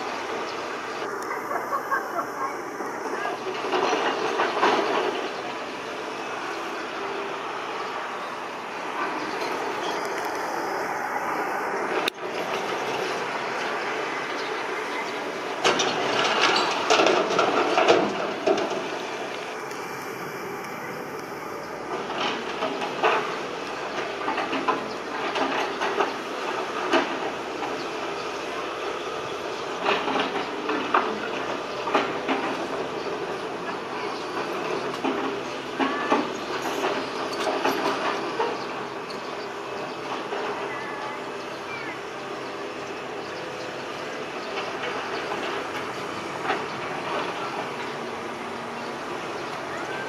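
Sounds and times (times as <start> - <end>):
excavator engine running: 0.0 - 50.0.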